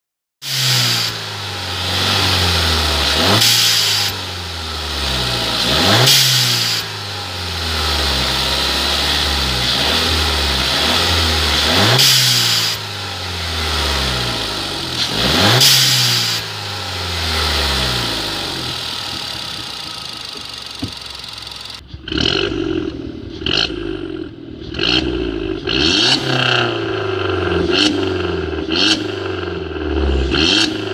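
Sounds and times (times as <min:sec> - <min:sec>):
car engine idling and revving: 0:00.4 - 0:30.9.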